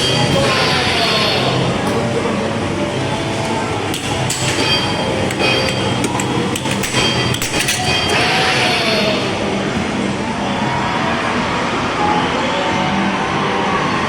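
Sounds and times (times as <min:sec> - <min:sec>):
dense background noise: 0:00.0 - 0:14.0.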